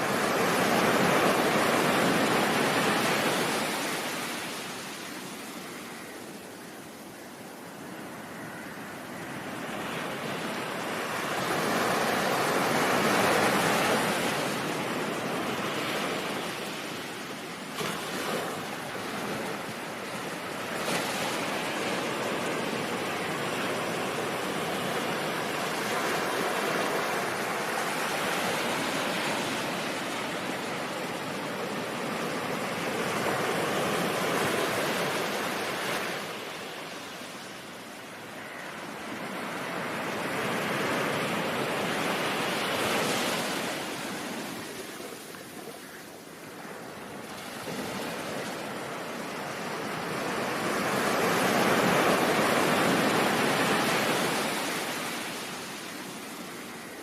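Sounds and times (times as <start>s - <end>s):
ocean waves breaking: 0.0s - 6.1s, 7.6s - 57.0s.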